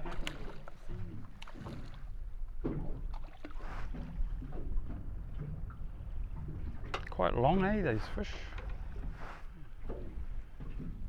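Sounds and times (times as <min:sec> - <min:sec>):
wind and water around hull: 0:00.0 - 0:11.0.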